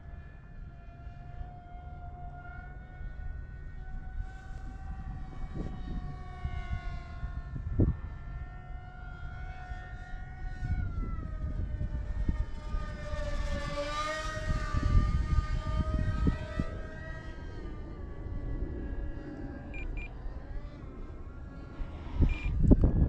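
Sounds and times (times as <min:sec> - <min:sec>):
rc plane electric motor whining: 0:00.0 - 0:23.0
wind rumbling on microphone: 0:00.0 - 0:23.0.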